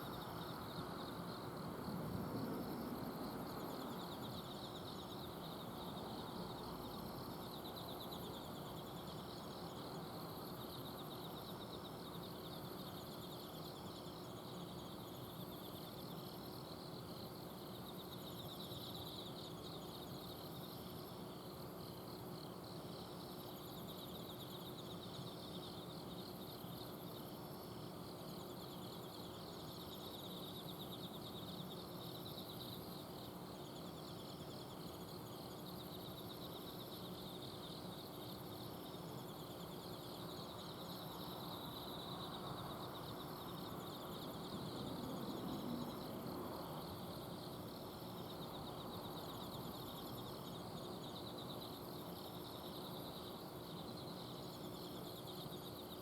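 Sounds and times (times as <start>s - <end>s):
insects chirping trills: 0.0s - 56.0s.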